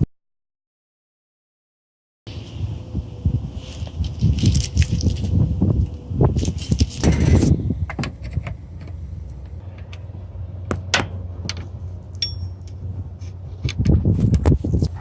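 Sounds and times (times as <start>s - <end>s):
car engine humming: 2.3s - 15.0s.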